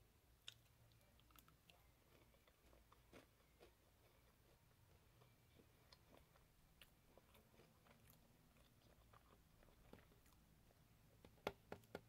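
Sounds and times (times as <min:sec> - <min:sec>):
chewing fried chicken: 0:00.4 - 0:10.9.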